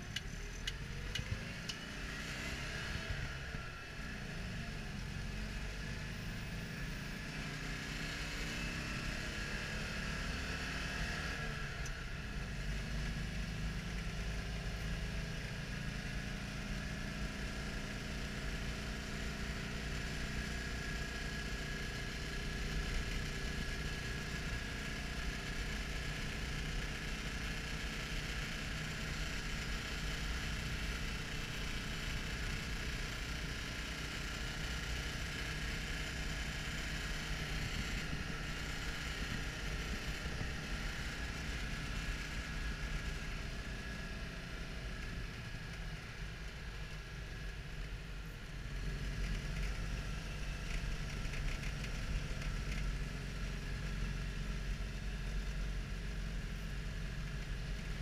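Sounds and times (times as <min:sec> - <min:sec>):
small car engine running: 0:00.0 - 0:58.0.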